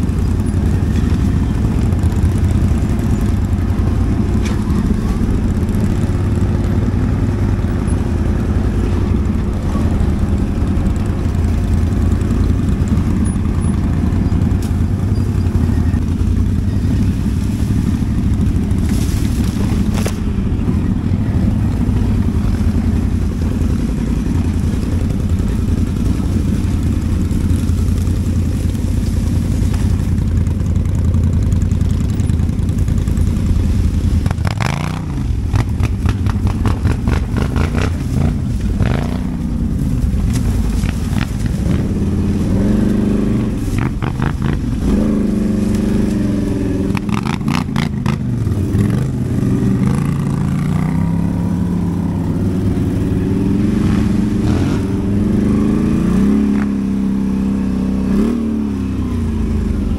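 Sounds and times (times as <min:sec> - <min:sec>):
quad bike engine droning: 0:00.0 - 0:59.9.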